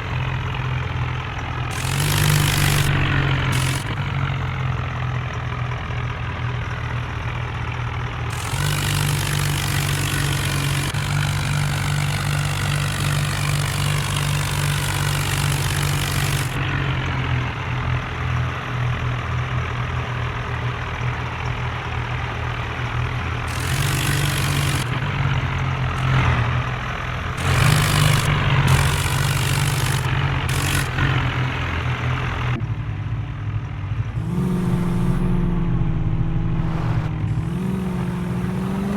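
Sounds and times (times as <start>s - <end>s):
diesel tractor engines running: 0.0s - 38.9s.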